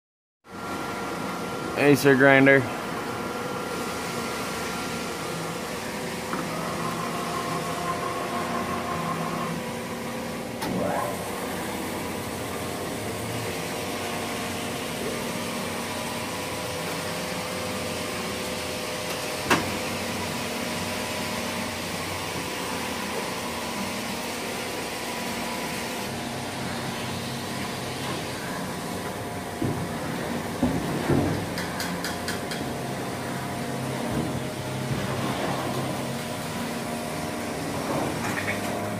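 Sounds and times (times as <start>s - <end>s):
grinder machine hum and whine: 0.5s - 38.9s.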